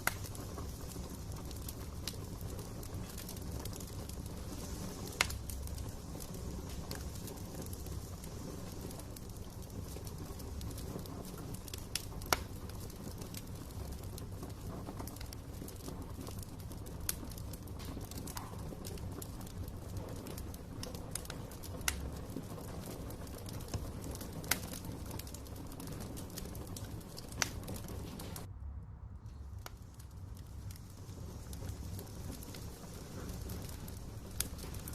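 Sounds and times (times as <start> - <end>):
wood fire crackling: 0.0 - 28.5, 29.2 - 34.9.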